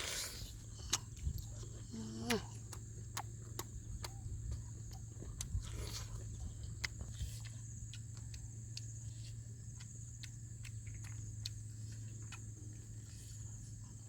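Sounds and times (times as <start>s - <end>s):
chewing clicks: 0.0s - 14.0s
steady low hum: 0.0s - 14.0s.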